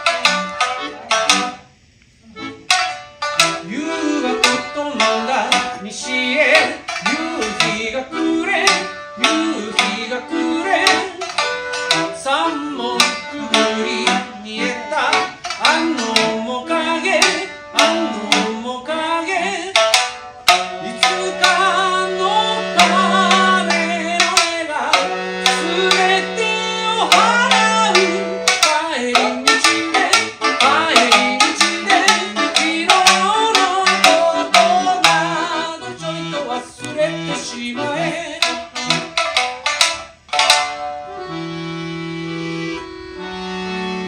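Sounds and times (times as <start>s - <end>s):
hand drum rhythm: 0.0s - 1.7s, 2.5s - 41.0s
accordion low chords: 0.0s - 44.0s
instrumental melody: 0.0s - 44.0s.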